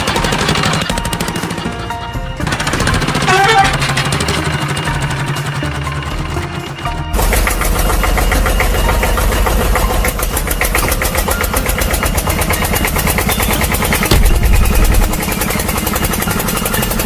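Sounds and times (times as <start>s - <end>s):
engine rattling and rumbling: 0.0s - 17.0s.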